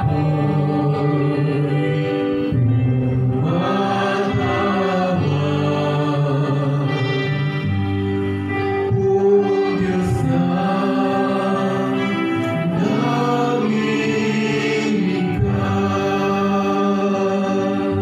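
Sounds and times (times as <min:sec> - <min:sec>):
voices singing slow chant: 0:00.0 - 0:18.0.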